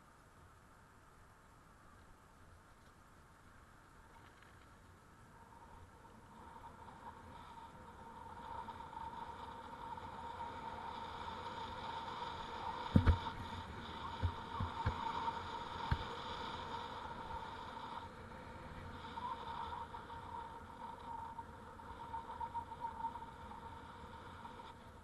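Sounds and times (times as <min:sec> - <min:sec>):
bicycle tyres rolling on pavement: 0:02.5 - 0:25.0.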